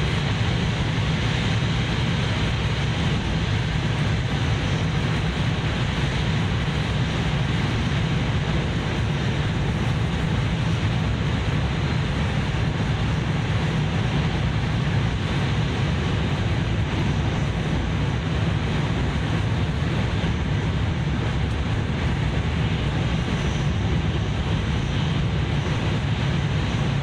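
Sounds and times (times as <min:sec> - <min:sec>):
train cabin rumble and rushing: 0:00.0 - 0:27.0.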